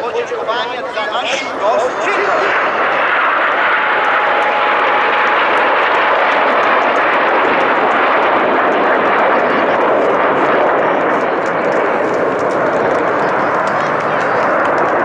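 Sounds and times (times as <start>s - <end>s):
aircraft engine rushing: 0.0s - 15.0s.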